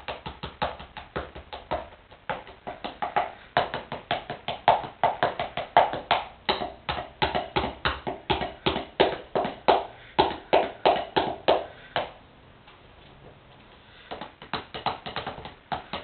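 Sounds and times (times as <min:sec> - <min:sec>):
drumsticks tapping on sneakers: 0:00.0 - 0:12.2, 0:14.0 - 0:16.0.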